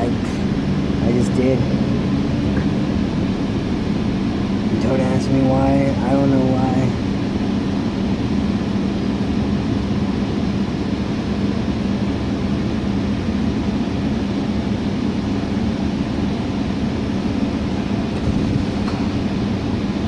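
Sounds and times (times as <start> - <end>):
road rumble: 0.0 - 13.2, 14.3 - 20.0
bus engine hum: 0.0 - 20.0.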